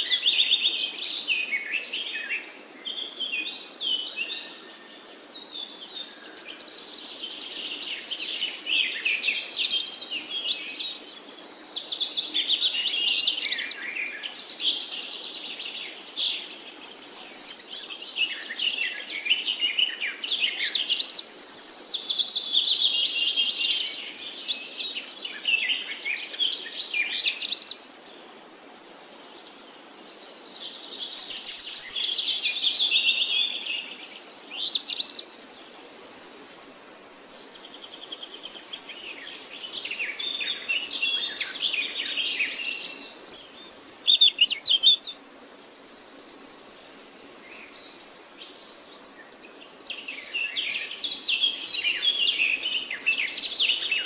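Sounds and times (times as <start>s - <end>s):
birds chirping and trilling: 0.0s - 36.8s, 37.4s - 54.0s.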